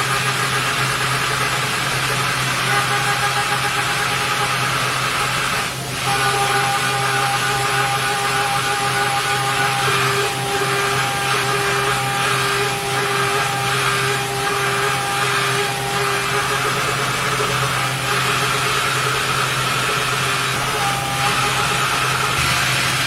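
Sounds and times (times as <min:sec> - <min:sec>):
cnc machine motor hum with whine: 0:00.0 - 0:23.0.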